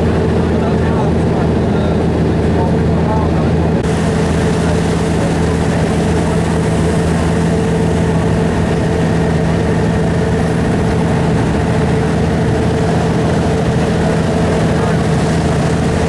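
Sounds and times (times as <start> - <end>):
large engine running: 0.0 - 16.0.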